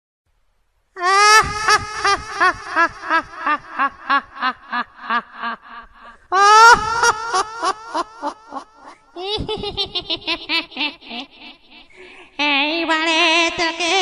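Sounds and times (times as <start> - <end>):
high-pitched cackling laugh: 1.0 - 14.0.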